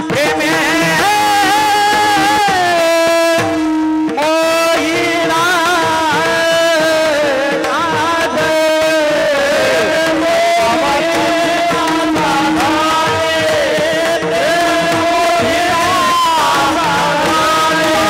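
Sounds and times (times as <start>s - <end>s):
person singing ornamented melody: 0.0s - 18.0s.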